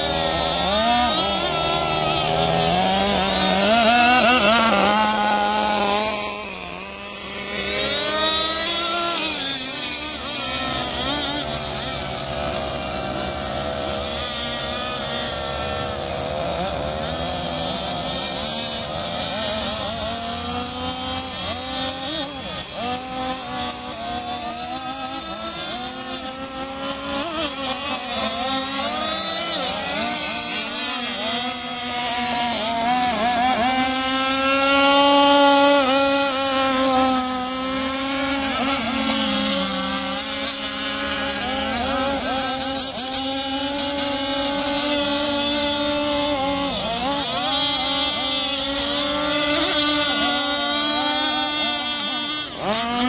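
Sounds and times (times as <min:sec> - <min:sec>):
model boat engines buzzing: 0:00.0 - 0:53.0.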